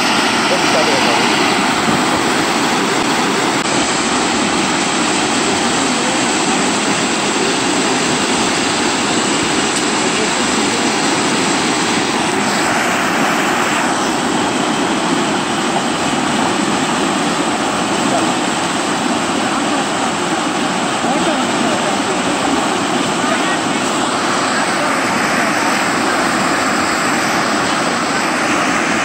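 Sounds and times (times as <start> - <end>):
water gushing from pipe: 0.0 - 29.0.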